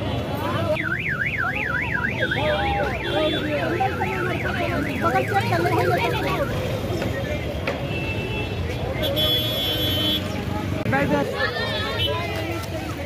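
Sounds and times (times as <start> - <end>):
market chatter: 0.0 - 13.0.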